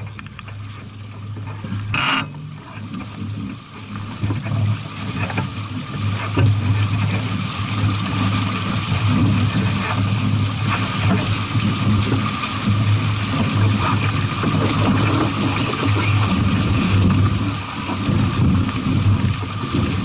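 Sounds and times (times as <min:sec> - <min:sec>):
boat engine hum: 0:00.0 - 0:20.0
small irregular crackles: 0:00.0 - 0:20.0
water and wind rushing: 0:00.0 - 0:20.0.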